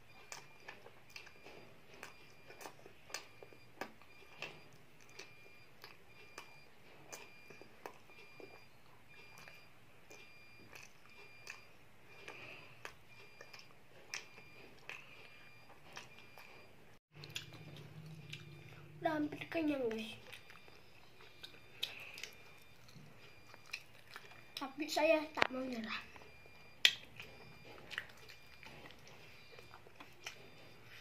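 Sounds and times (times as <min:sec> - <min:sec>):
child chewing with wet mouth smacks: 0:00.0 - 0:31.0.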